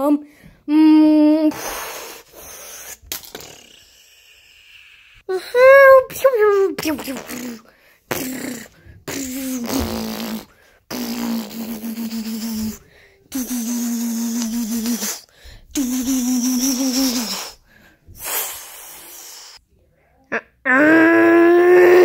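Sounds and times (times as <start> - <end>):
child making buzzing mouth sounds: 0.7 - 17.6, 18.2 - 19.6, 20.2 - 22.0.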